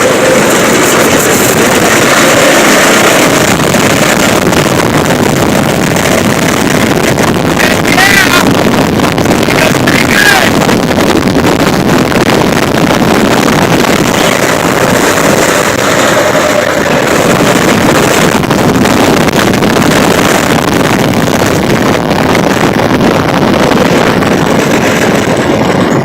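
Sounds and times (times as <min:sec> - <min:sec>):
go-kart engine running: 0:00.0 - 0:26.0
wind buffeting microphone: 0:00.0 - 0:26.0.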